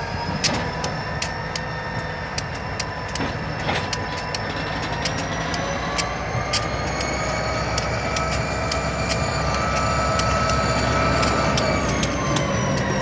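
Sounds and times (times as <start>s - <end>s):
diesel locomotive rumble: 0.0s - 13.0s
steady whine: 0.0s - 13.0s.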